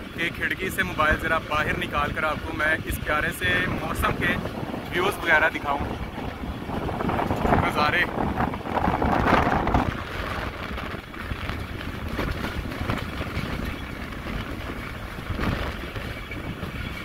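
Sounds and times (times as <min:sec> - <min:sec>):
train wheel and rail noise: 0:00.0 - 0:17.0
wind rushing over microphone: 0:00.0 - 0:17.0.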